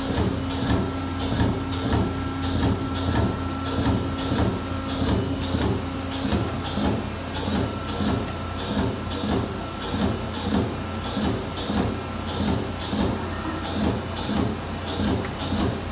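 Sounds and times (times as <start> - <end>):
steady machine hum: 0.0 - 15.9.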